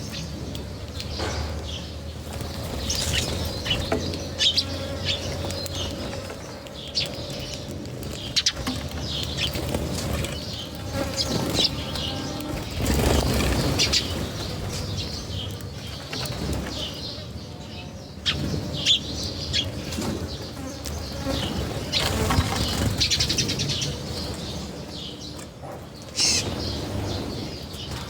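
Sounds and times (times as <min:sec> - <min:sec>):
birds chirping: 0:00.0 - 0:28.0
flurry of wingbeats: 0:01.8 - 0:17.4, 0:18.2 - 0:25.1.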